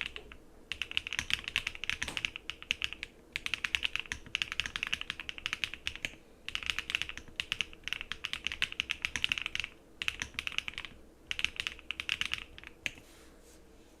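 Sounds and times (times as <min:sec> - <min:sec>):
mechanical keyboard typing: 0:00.0 - 0:13.0.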